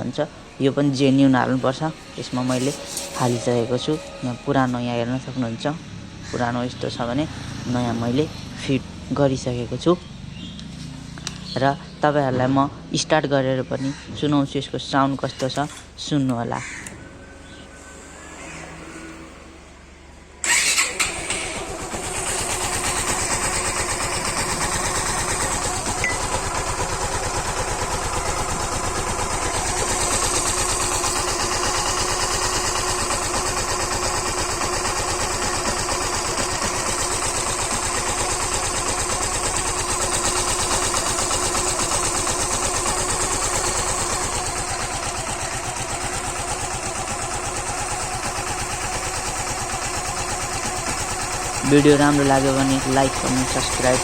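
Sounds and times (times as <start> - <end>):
motorcycle engine starting and running: 0.0 - 14.0, 20.4 - 54.0.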